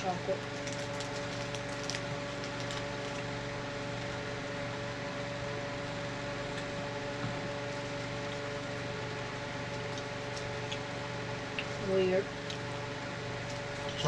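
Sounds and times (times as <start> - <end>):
mechanical room hum: 0.0 - 14.0.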